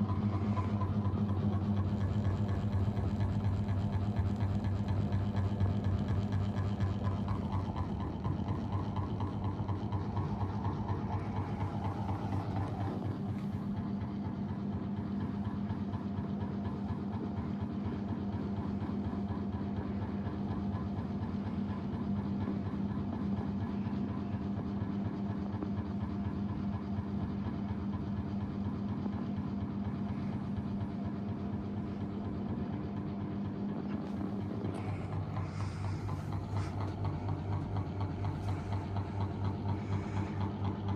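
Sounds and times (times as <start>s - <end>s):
ceiling fan motor hum: 0.0s - 40.9s.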